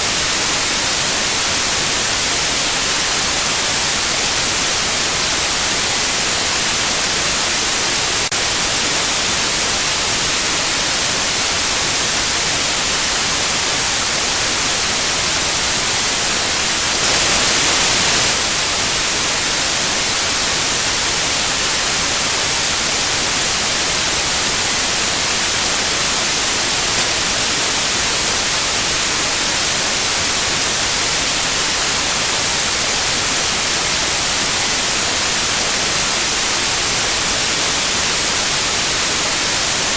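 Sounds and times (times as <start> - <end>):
high-pitched pure tone: 0.0 - 39.9
white noise: 0.0 - 39.9.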